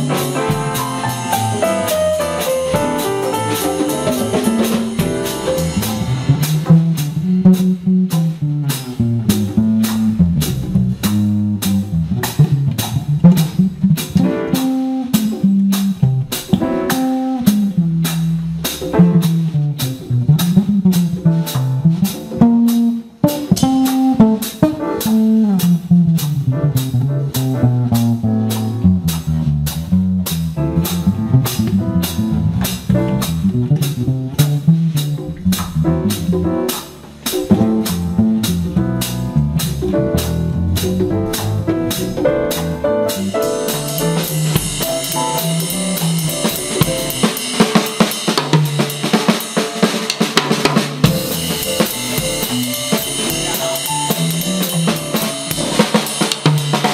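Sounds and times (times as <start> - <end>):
electric bass melody: 0.0 - 49.1, 50.7 - 56.9
drum cymbal pattern: 0.0 - 56.9
jazz combo playing: 0.0 - 56.9.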